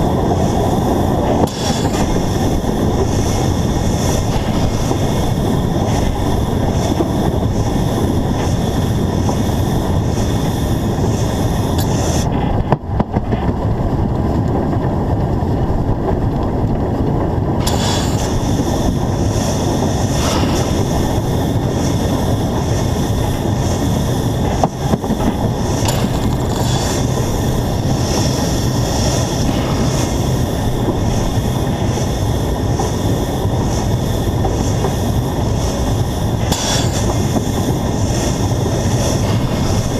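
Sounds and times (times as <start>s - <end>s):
steam locomotive running: 0.0s - 39.9s
wind noise on microphone: 0.0s - 39.9s.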